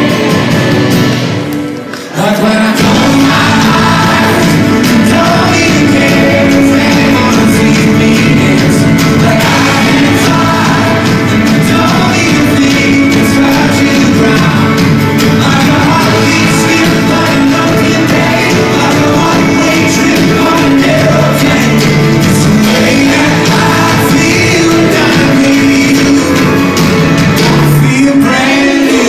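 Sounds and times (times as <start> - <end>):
lead vocal singing: 0.0 - 29.0
live band playing pop song: 0.0 - 29.0.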